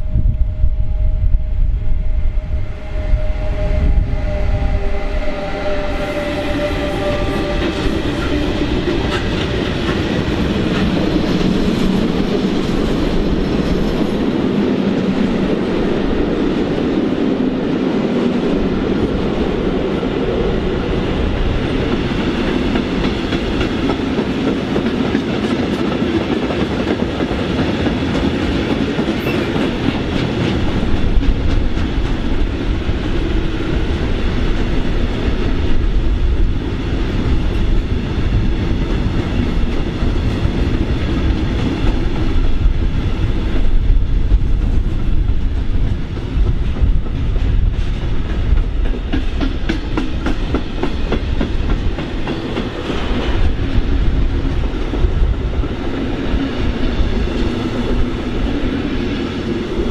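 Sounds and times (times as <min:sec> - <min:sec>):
train rolling on rails: 0:00.0 - 0:59.9.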